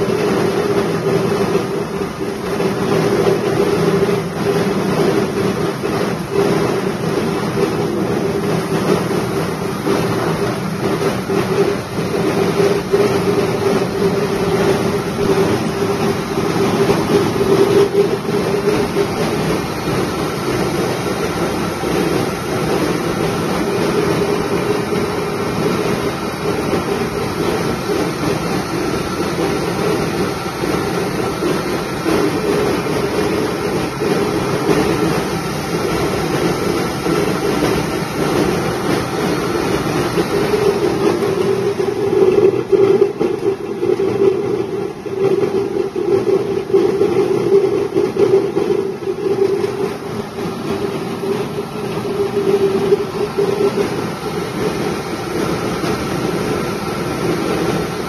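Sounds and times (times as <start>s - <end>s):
rice mill running: 0.0s - 58.0s.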